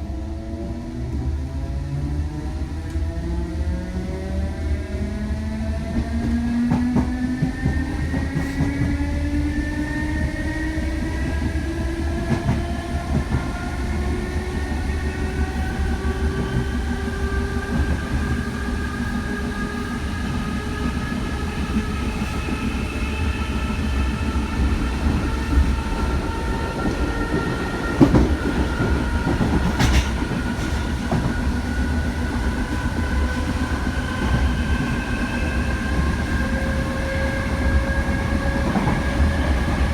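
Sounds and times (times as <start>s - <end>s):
train running rumble: 0.0s - 39.9s.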